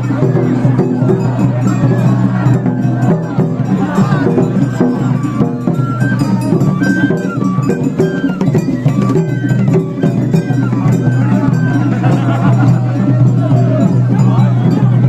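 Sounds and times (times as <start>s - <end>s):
drums and percussion: 0.0s - 15.0s
high flute melody: 1.4s - 15.0s.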